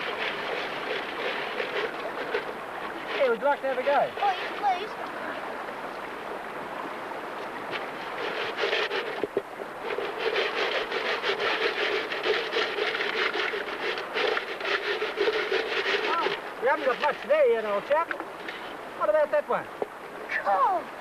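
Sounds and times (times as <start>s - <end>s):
water washing: 0.0s - 21.0s.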